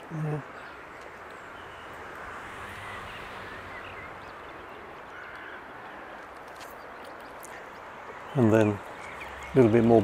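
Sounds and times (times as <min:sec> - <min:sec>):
faint bird chirping: 0:00.0 - 0:10.0.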